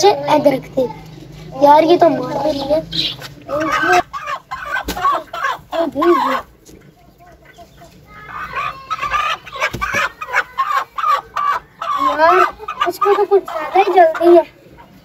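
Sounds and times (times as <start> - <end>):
hen clucking and squawking: 0.0 - 15.0.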